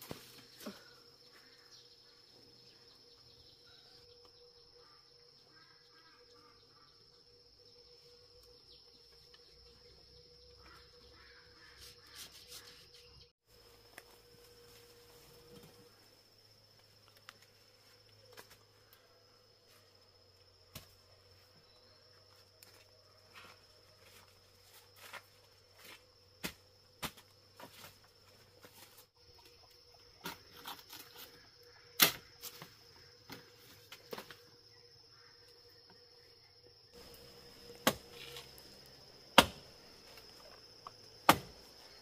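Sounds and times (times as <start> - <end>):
high insect trill: 0.2 - 42.0.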